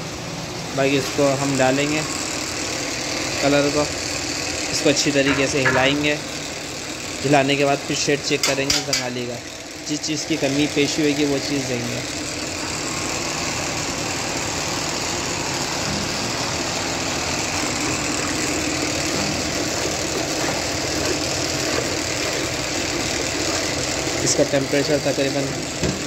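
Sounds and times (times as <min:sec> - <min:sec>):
heated vat rumbling: 0:00.0 - 0:26.0.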